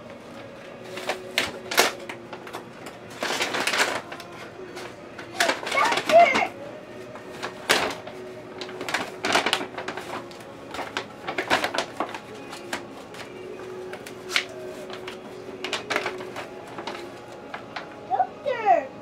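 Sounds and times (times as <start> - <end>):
shopping bag rustling and crinkling: 0.0 - 18.1.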